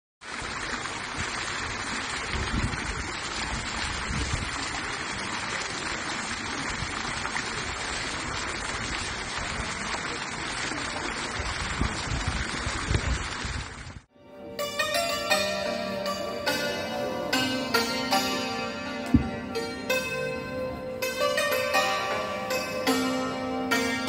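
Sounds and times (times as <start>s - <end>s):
fountain splashing into pool: 0.2s - 24.0s.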